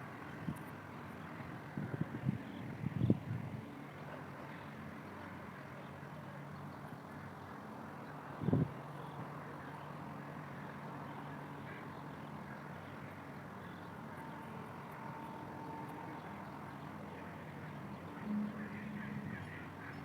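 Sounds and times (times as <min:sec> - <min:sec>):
city traffic noise: 0:00.0 - 0:20.0.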